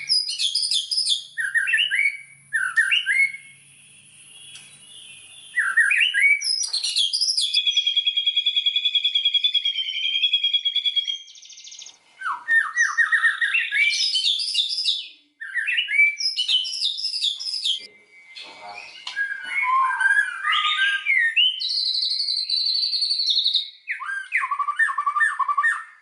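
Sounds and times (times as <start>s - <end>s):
bird fast trill: 0.0s - 26.0s
bird singing rising whistles: 0.0s - 26.0s.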